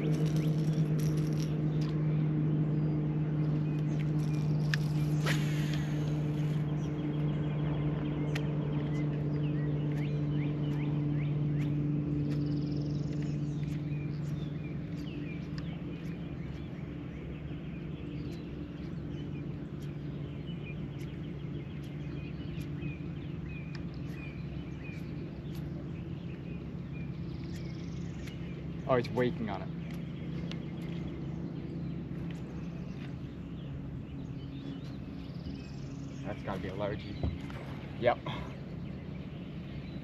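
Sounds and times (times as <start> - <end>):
birds chirping: 0.0 - 40.0
steady low hum: 0.0 - 40.0.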